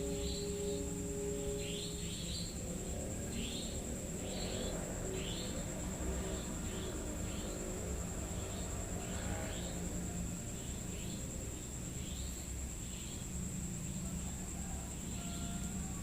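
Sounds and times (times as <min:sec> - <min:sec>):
insect chirps: 0:00.0 - 0:16.0
insects high-pitched drone: 0:00.0 - 0:16.0.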